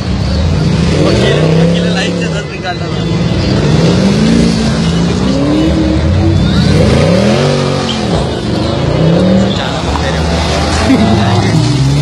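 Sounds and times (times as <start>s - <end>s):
engine revving and accelerating: 0.2s - 2.4s, 3.0s - 12.0s.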